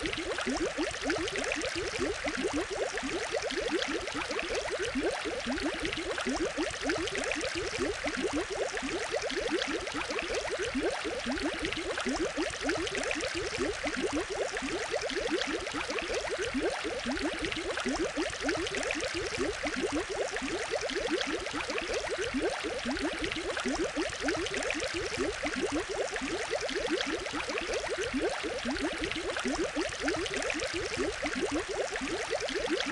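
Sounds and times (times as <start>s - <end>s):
aquarium water bubbling: 0.0s - 32.9s
constant watery hiss: 0.0s - 32.9s.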